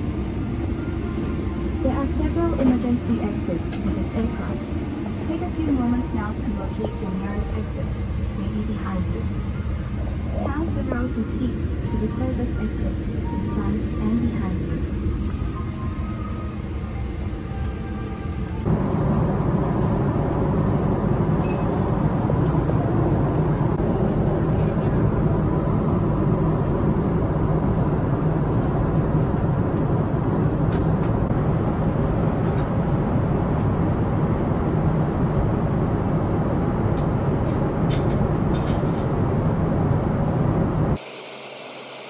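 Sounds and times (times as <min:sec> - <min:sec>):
jet airliner cabin rumble: 0:00.0 - 0:42.0.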